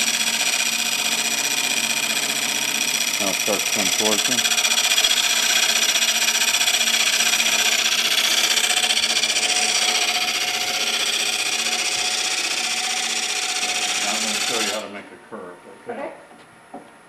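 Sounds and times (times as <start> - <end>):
gouge cutting wood on lathe: 0.0 - 15.0
lathe hum: 0.0 - 15.1.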